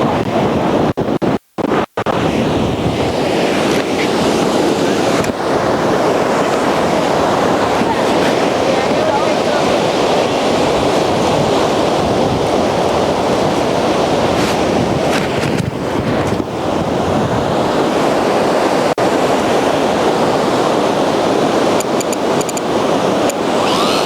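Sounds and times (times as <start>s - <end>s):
surf rushing on beach: 0.0s - 24.0s
wind buffeting microphone: 0.0s - 24.0s.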